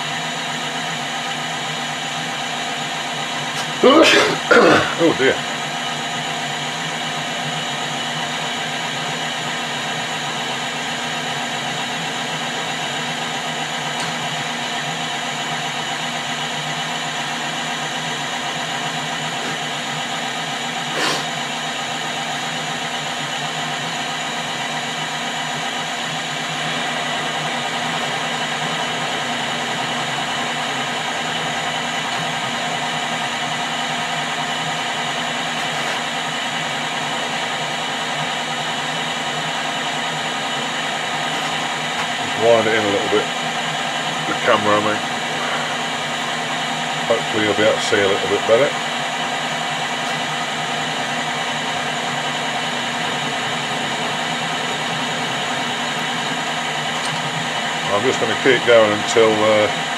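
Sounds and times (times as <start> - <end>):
metal lathe whirring: 0.0 - 59.9.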